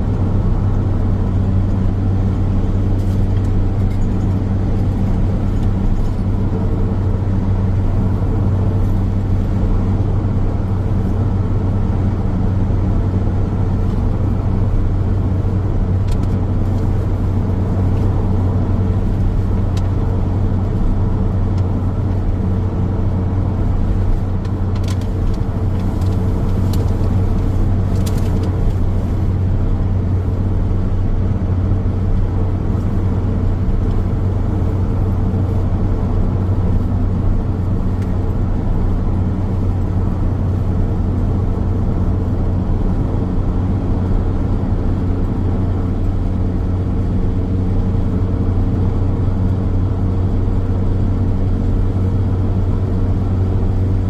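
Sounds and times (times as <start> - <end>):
car road noise drone: 0.0 - 54.0.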